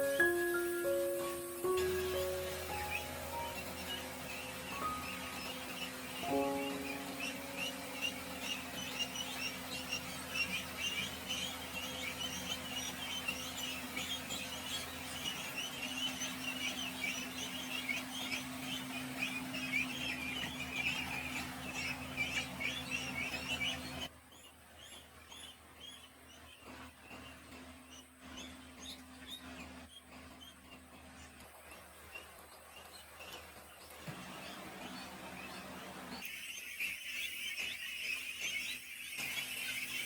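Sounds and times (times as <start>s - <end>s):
ducklings peeping: 0.0s - 40.0s
steady low hum: 0.0s - 40.0s.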